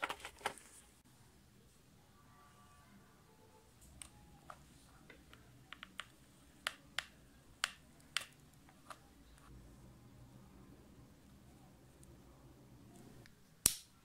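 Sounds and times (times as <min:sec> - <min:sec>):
faint low hum: 0:00.4 - 0:14.0.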